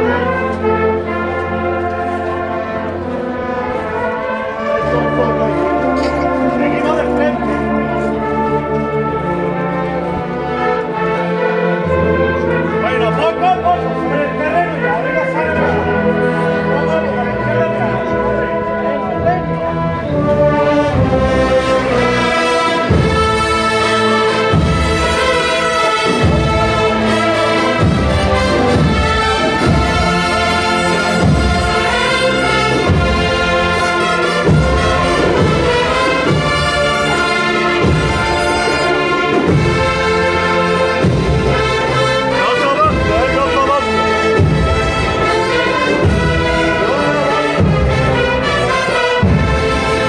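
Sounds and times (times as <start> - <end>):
brass band playing a march: 0.0 - 50.0.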